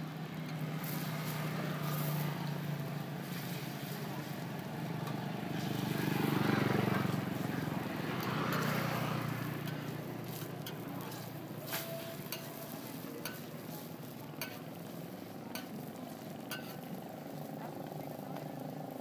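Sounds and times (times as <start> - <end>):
pancake sizzling: 0.0 - 19.0.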